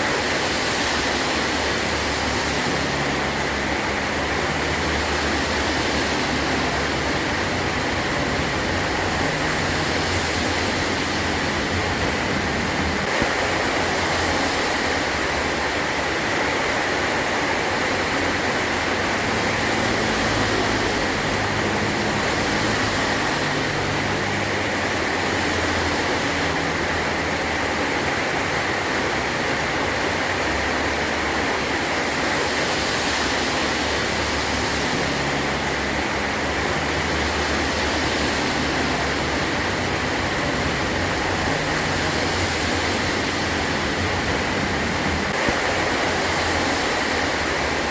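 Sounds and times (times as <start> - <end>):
heavy rain on a tin roof: 0.0 - 47.9.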